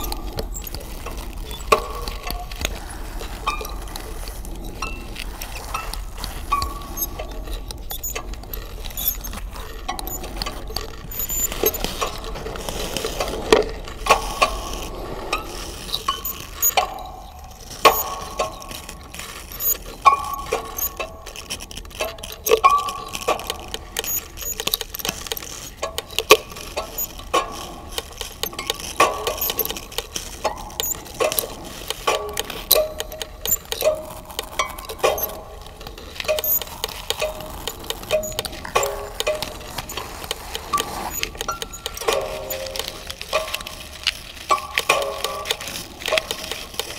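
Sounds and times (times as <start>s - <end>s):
scratchy clicks and scrapes: 0.0s - 46.9s.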